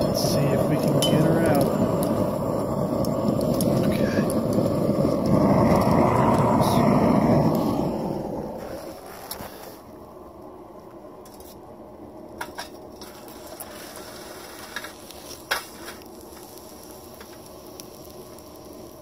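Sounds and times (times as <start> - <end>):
molten metal hissing: 0.0 - 19.0.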